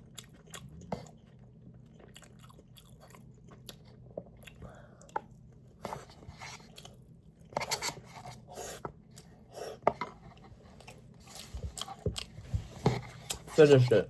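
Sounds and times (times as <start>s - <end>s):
person chewing rice: 0.0s - 13.8s.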